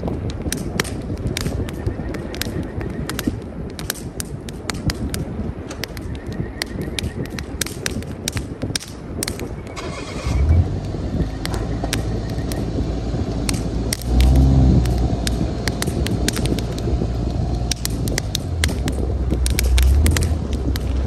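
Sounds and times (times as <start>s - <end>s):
wind rumbling on microphone: 0.0s - 21.0s
wood fire crackling and popping: 0.0s - 21.0s.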